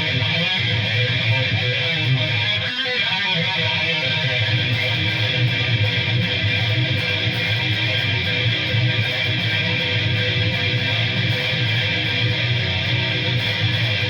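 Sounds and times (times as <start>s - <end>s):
distorted electric guitar riff: 0.0s - 14.0s.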